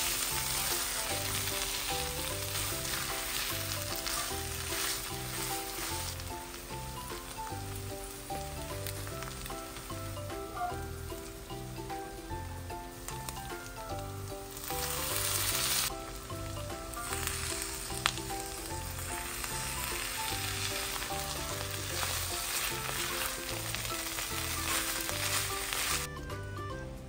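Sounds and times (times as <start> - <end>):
spatula stirring: 0.0 - 11.4, 13.0 - 26.1
chicken sizzling in a pan: 0.0 - 26.2
background music with bass: 0.0 - 27.0.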